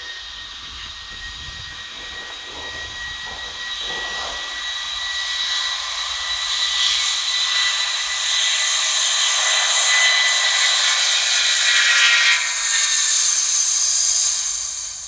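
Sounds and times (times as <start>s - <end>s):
jet engine whine: 0.0s - 15.0s
jet hiss: 0.0s - 15.0s.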